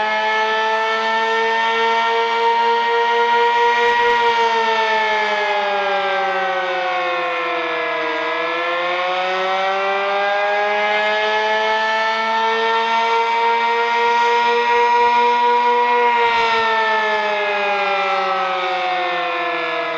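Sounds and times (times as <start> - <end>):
storm siren wailing: 0.0 - 19.9.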